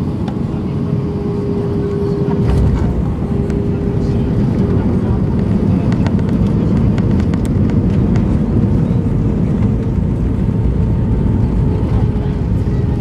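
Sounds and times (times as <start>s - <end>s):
airplane engines rumbling: 0.0s - 13.0s.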